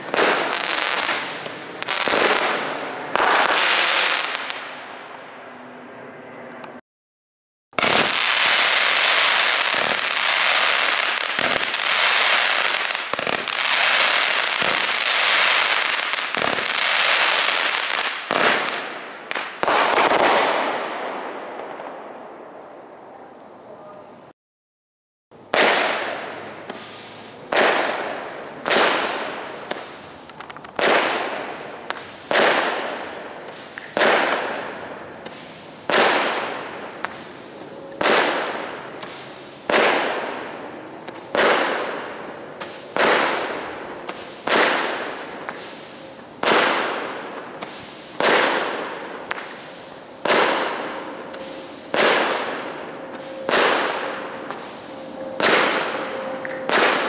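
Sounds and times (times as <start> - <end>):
firework shots: 0.0 - 4.9, 7.8 - 22.4, 25.5 - 57.0.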